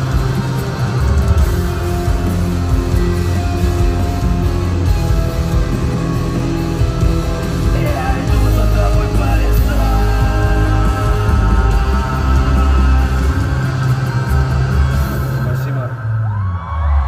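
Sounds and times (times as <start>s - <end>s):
electric guitar: 0.0s - 17.0s
heavy bass: 0.0s - 17.0s.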